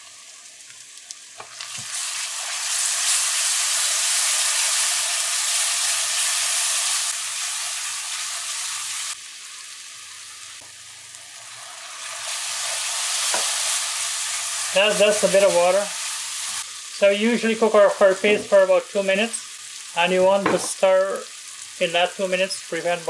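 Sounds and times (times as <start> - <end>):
curry paste sizzling in hot oil: 0.0 - 23.0.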